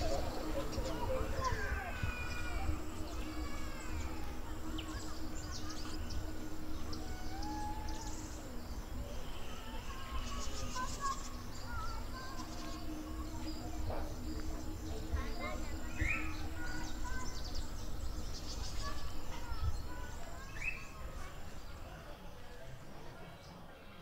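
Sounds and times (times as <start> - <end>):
bird chirps and calls: 0.0 - 22.1.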